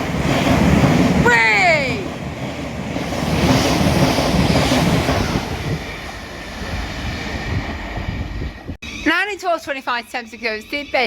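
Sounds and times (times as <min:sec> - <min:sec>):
train running past: 0:00.0 - 0:11.0.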